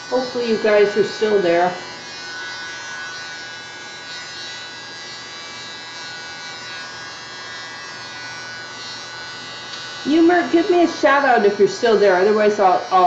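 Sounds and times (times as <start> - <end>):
small motor buzzing: 0.0 - 13.0.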